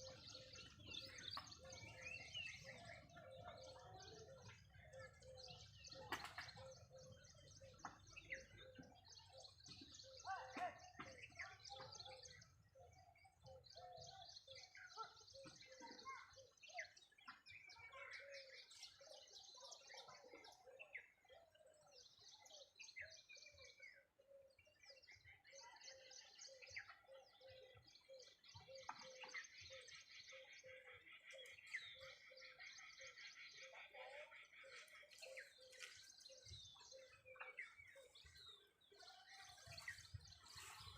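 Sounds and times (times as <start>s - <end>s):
birds chirping and calling: 0.0s - 40.9s.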